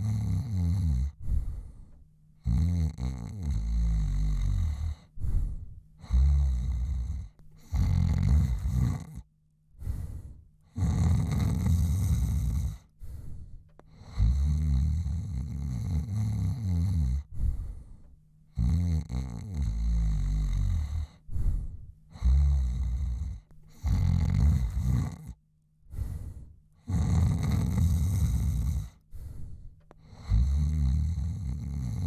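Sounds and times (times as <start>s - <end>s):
man snoring: 0.0s - 1.6s, 2.4s - 12.9s, 13.9s - 17.7s, 18.5s - 25.4s, 26.0s - 29.0s, 30.0s - 32.0s.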